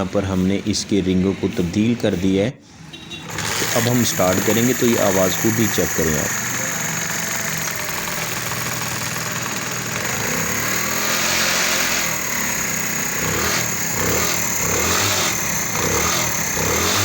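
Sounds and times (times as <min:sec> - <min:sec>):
motorcycle engine revving: 0:03.0 - 0:17.0.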